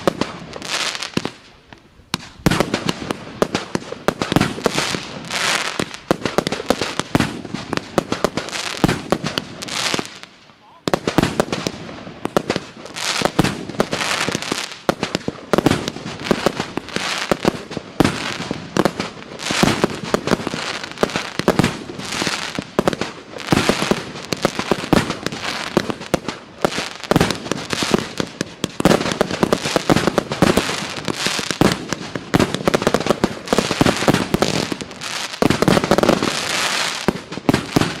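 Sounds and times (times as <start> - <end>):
fireworks crackling: 0.0 - 38.0
fireworks launching and bursting: 0.0 - 38.0.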